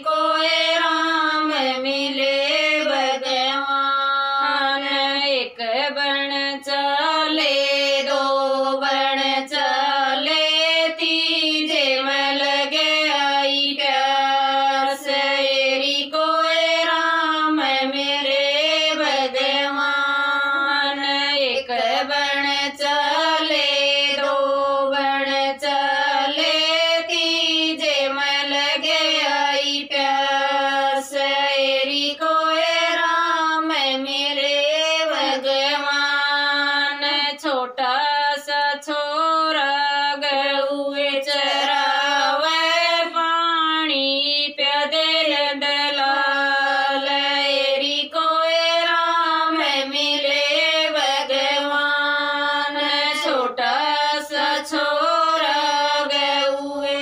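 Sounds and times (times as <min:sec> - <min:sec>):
women singing together: 0:00.0 - 0:57.0.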